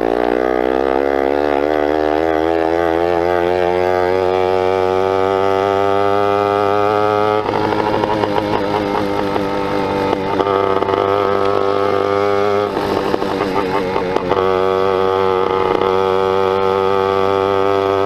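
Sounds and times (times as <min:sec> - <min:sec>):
two-stroke engine running: 0:00.0 - 0:18.0.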